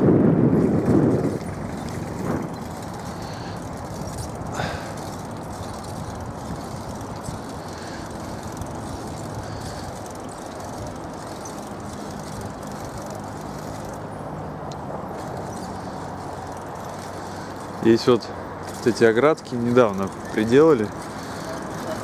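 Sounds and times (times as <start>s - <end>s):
bicycle rolling on pavement: 0.0s - 22.0s
wind buffeting microphone: 0.0s - 22.0s.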